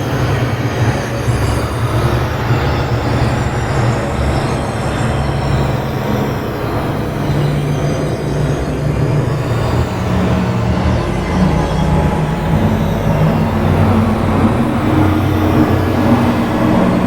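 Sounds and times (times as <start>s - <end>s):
low electronic drone: 0.0s - 17.0s.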